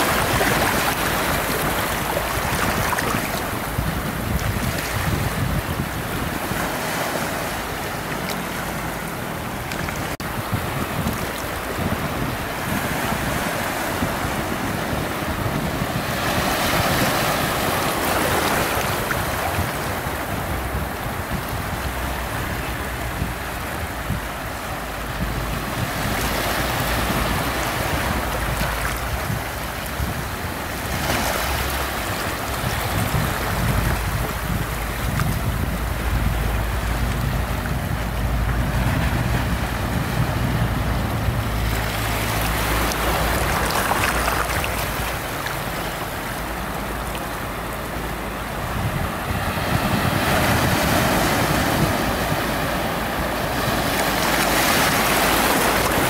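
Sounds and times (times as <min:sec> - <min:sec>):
small waves breaking: 0:00.0 - 0:56.0
water washing over rocky shore: 0:00.0 - 0:56.0
wind buffeting microphone: 0:00.0 - 0:56.0.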